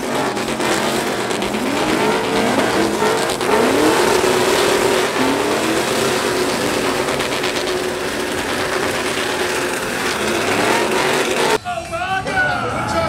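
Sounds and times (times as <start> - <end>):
truck engine revving: 0.0 - 11.6
tyres spinning: 0.0 - 11.6.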